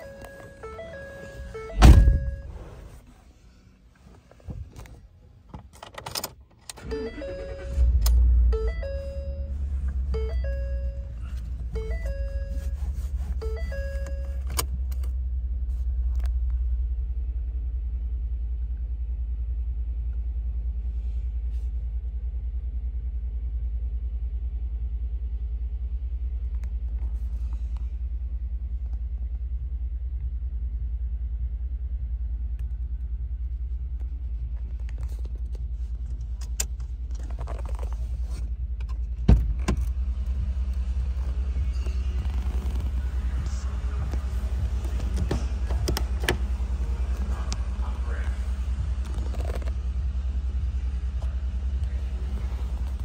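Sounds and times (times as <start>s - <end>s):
engine idling: 6.7s - 53.0s.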